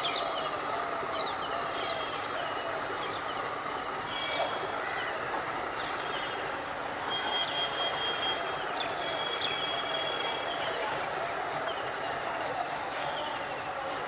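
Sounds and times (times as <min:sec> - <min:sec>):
diesel locomotive engine hum: 0:00.0 - 0:14.0.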